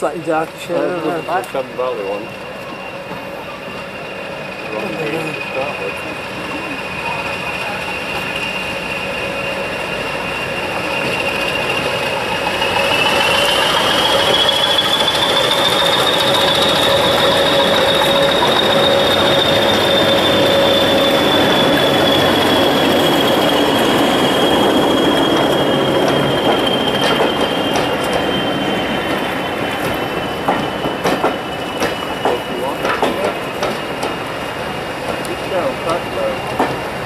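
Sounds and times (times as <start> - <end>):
diesel train engine running: 0.0 - 37.0
high squeal of train wheels: 0.0 - 37.0.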